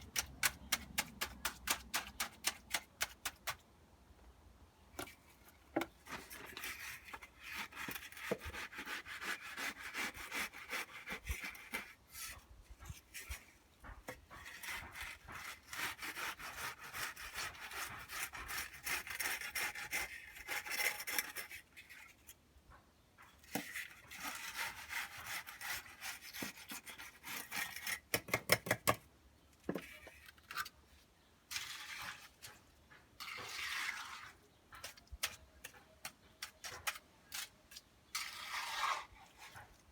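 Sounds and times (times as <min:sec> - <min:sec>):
hand tool scraping wet concrete: 0:00.0 - 0:03.6, 0:06.1 - 0:12.4, 0:13.0 - 0:22.2, 0:23.5 - 0:28.9, 0:31.5 - 0:39.9.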